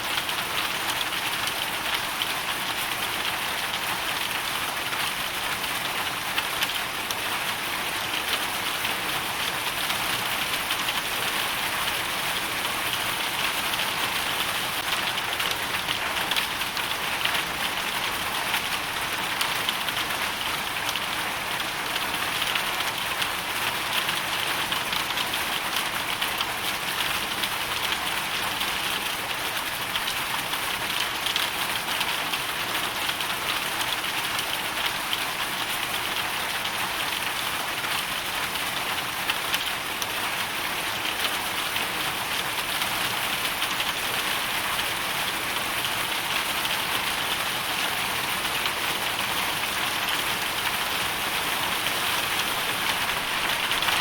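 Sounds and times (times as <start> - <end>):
hail and rain pelting down: 0.0 - 54.0.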